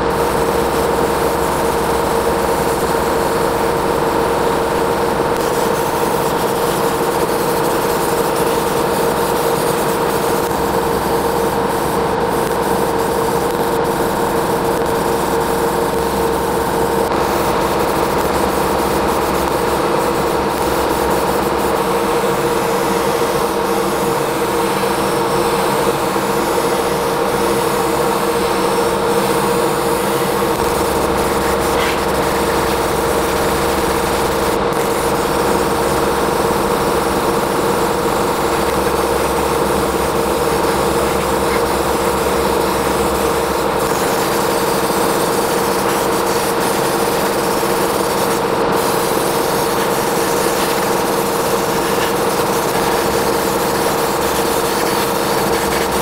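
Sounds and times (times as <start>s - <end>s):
power tool motor whining: 0.0s - 56.0s.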